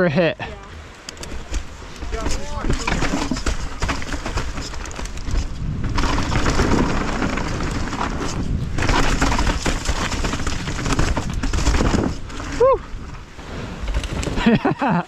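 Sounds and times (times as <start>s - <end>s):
bike rattling and knocking: 1.1s - 14.7s
bike tyres rumbling over rock: 1.2s - 14.7s.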